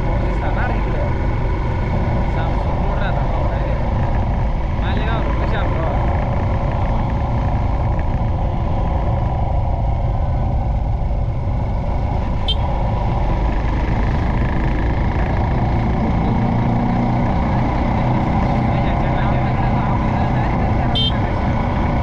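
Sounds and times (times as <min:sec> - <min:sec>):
motorcycle engine: 0:00.0 - 0:22.0
wind rumble on microphone: 0:00.0 - 0:22.0.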